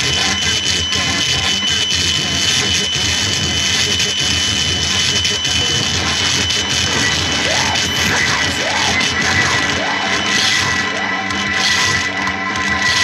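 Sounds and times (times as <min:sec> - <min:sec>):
harsh distorted noise music: 0:00.0 - 0:13.0
thin high whine: 0:00.0 - 0:13.0.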